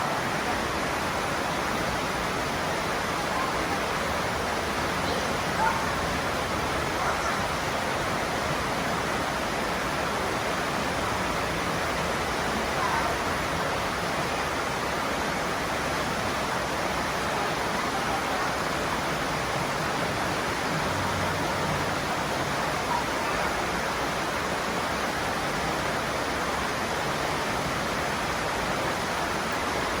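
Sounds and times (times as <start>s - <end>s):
rushing outdoor ambience: 0.0s - 30.0s.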